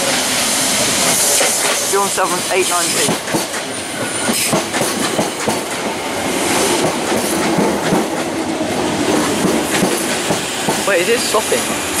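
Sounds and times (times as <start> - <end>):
train wheels clattering over joints: 1.0 - 11.6.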